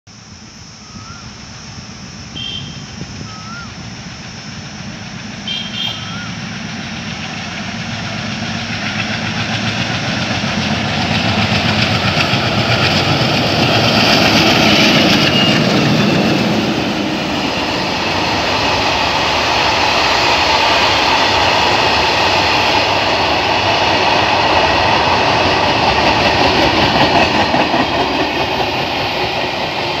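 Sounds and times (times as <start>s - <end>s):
diesel locomotive engines chugging: 0.1s - 30.0s
freight wagons rumbling on rails: 0.8s - 30.0s.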